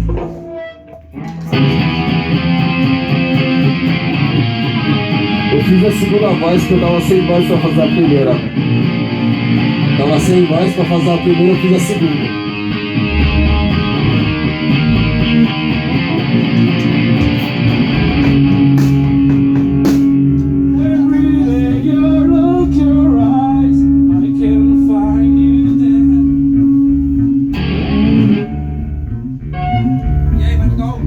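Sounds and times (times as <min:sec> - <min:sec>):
rock band playing: 0:00.0 - 0:30.4
electric guitar: 0:00.0 - 0:31.0.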